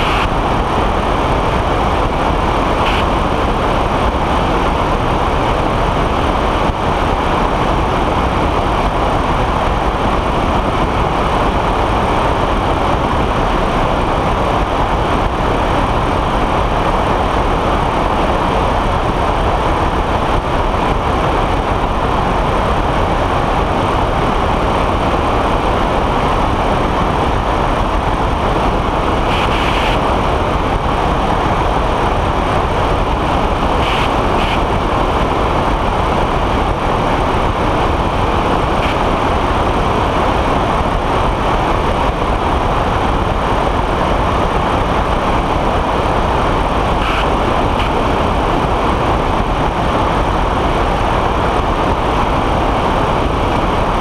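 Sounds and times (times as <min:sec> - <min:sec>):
engine and propeller drone: 0:00.0 - 0:54.0
wind rushing: 0:00.0 - 0:54.0.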